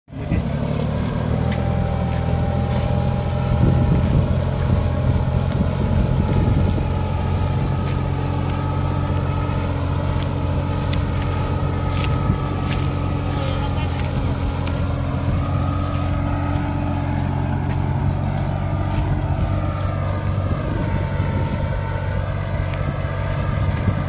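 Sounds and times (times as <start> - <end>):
tractor diesel engine running: 0.1 - 24.0.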